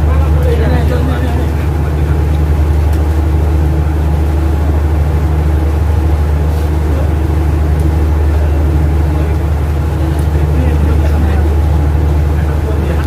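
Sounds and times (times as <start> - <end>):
low machinery drone: 0.0 - 13.0.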